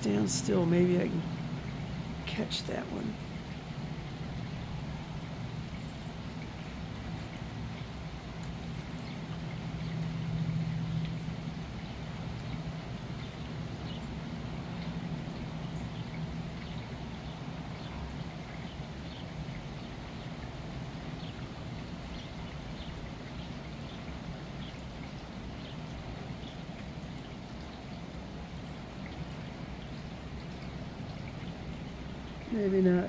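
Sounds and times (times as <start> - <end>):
steady rain: 0.0 - 33.0
water dripping off roof: 0.0 - 33.0.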